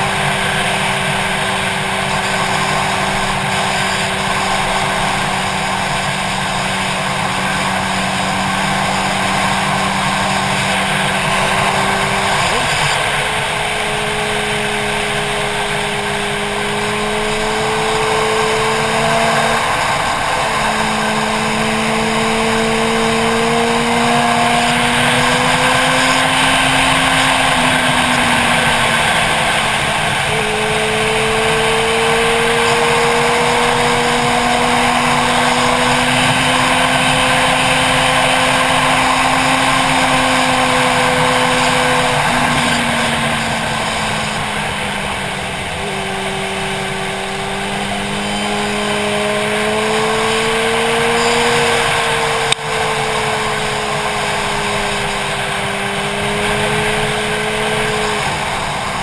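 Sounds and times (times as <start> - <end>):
motorcycle engine running: 0.0 - 59.0
wind rush on camera: 0.0 - 59.0.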